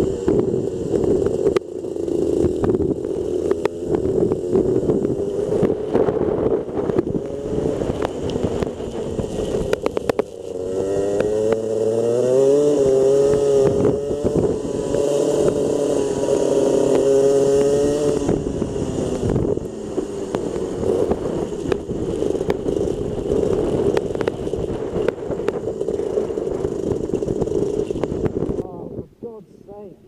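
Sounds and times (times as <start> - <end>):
kart engine running: 0.0 - 28.6.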